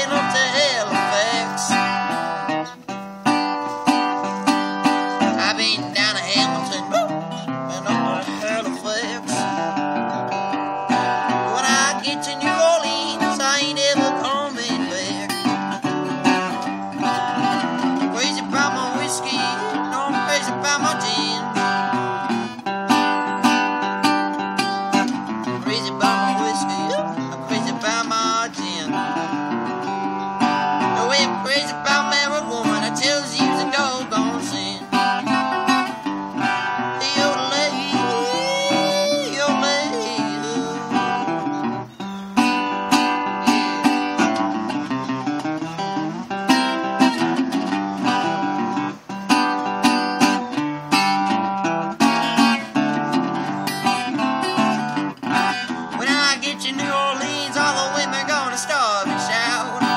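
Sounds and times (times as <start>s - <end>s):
acoustic guitar picked and strummed: 0.0s - 59.9s.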